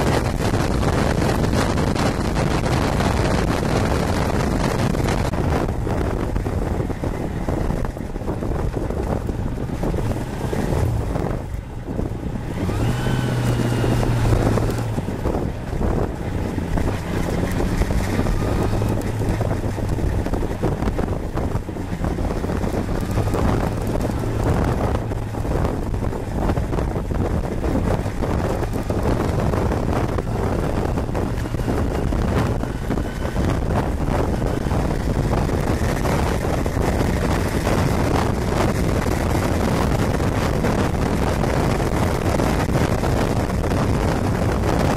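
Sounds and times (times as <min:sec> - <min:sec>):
motorcycle engine running: 0:00.0 - 0:44.9
wind noise on microphone: 0:00.0 - 0:44.9.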